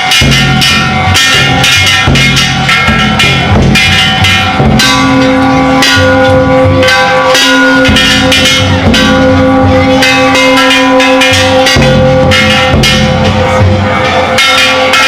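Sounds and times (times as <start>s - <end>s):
bronze gongs ringing: 0.0s - 15.0s
taiko drum beats: 0.0s - 15.0s.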